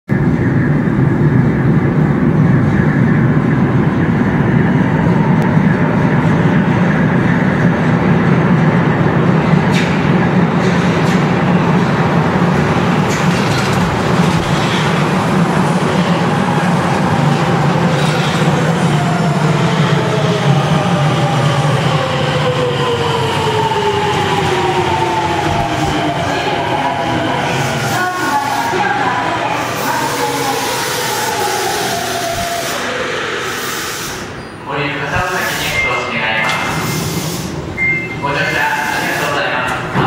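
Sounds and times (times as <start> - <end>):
train rumbling through tunnel: 0.1 - 40.0.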